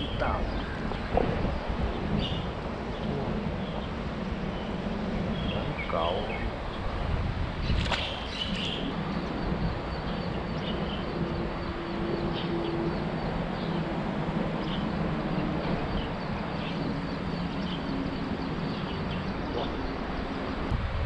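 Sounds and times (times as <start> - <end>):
traffic rumble overhead: 0.0 - 21.0.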